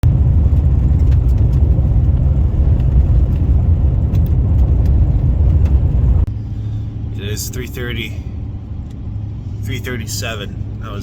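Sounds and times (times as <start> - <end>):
road and engine rumble inside truck: 0.0 - 11.0.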